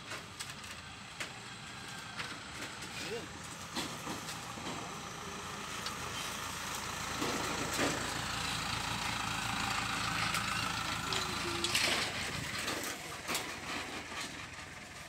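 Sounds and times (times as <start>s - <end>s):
dump truck engine idling: 0.0s - 15.0s.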